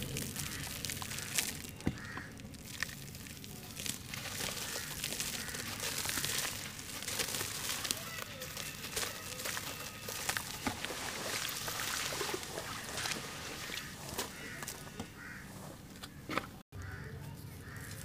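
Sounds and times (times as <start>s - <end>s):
hands squishing wet paste: 0.0s - 15.4s
gritty ash crumbling and trickling: 0.0s - 17.0s, 17.6s - 18.0s.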